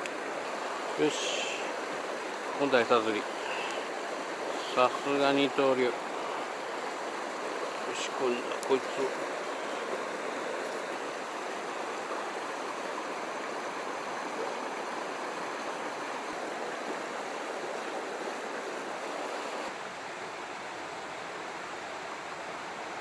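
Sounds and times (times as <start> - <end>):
stream water rushing over rocks: 0.0 - 23.0.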